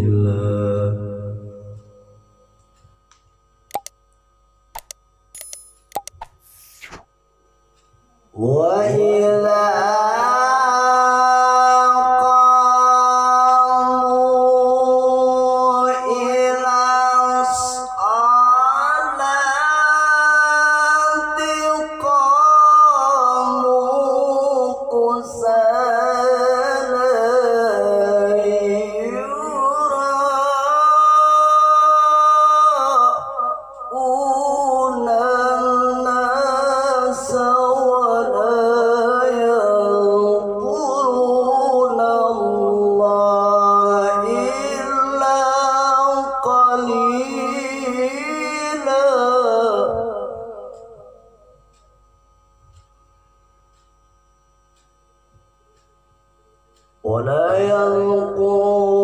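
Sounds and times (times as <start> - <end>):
man reciting melodically: 0.0 - 2.0, 8.3 - 51.8, 57.0 - 59.0.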